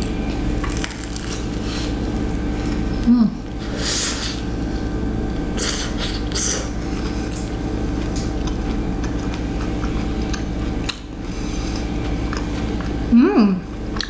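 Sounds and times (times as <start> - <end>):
person chewing crunchy food: 0.0 - 13.1
steady low hum: 0.0 - 14.0.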